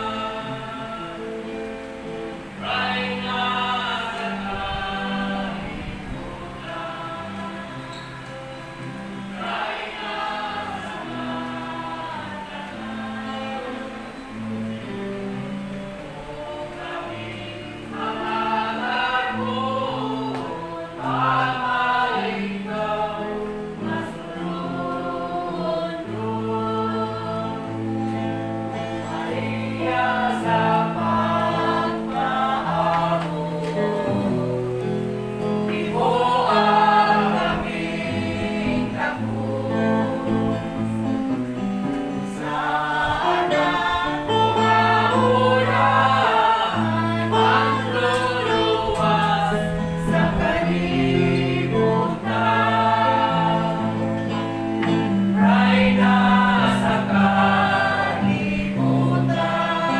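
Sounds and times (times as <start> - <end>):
choir singing worship song: 0.0 - 59.9.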